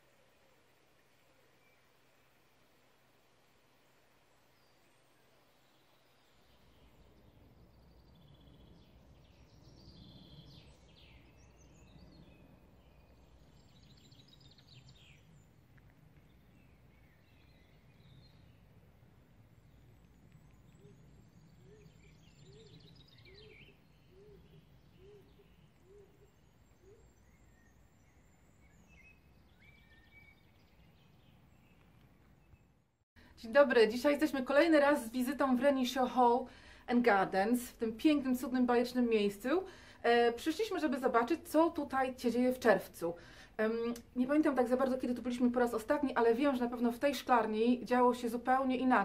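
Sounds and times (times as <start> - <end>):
small birds singing: 1.1 - 2.4, 3.9 - 49.0.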